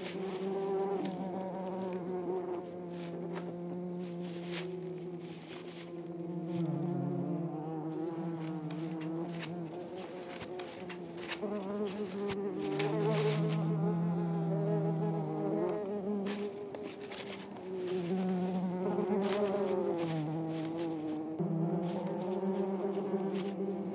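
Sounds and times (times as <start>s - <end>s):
bird scratching in dry leaves: 0.0s - 2.0s, 2.6s - 6.8s, 7.9s - 13.8s, 16.2s - 23.9s
wasps buzzing: 0.0s - 23.9s.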